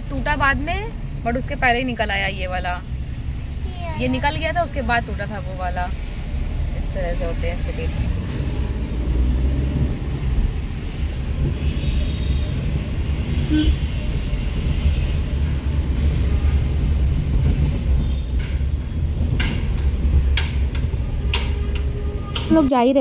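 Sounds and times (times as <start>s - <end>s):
vehicle road and engine rumble: 0.0s - 23.0s.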